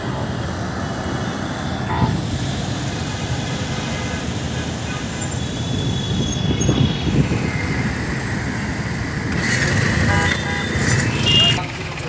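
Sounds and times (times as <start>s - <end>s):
vehicle engines in traffic: 0.0s - 12.0s.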